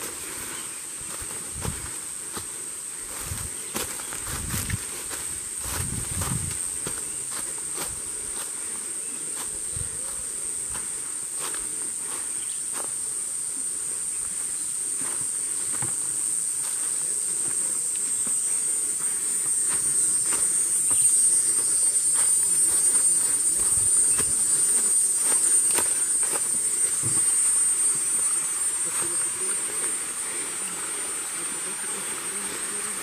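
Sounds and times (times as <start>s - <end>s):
footsteps on dry leaves: 0.0s - 13.0s, 14.2s - 32.7s
high-pitched insect drone: 0.0s - 33.0s.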